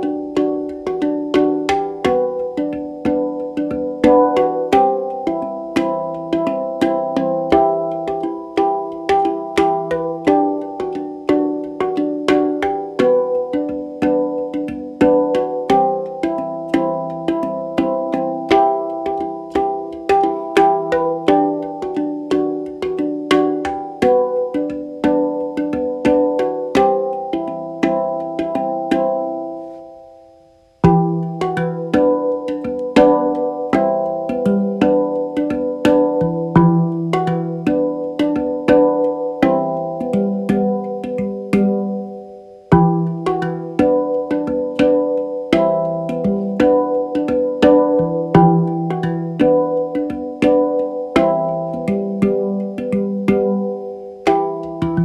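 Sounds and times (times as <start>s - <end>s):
brisk plucked melody: 0.0s - 55.0s.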